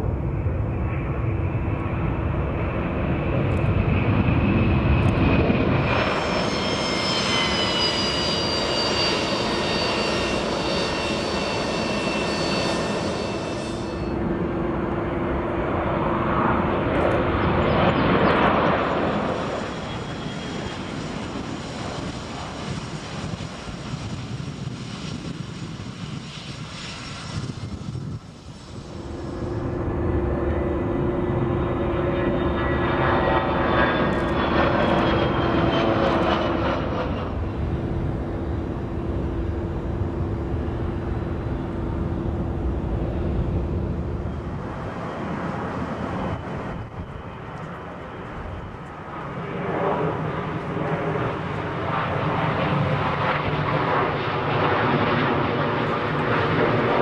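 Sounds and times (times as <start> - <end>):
high jet whine: 0.0 - 57.0
jet engine takeoff roar: 0.0 - 57.0.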